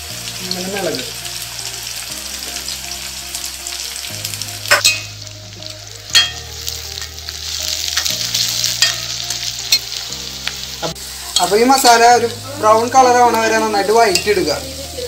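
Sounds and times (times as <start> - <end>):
soft background music: 0.0 - 15.0
vegetables sizzling in hot oil: 0.0 - 15.0.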